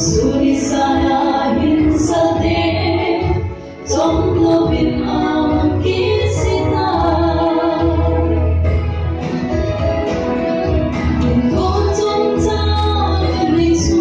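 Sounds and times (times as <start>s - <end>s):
women singing gospel over loudspeaker: 0.0s - 8.6s, 11.2s - 14.0s
low instrumental accompaniment: 0.0s - 14.0s.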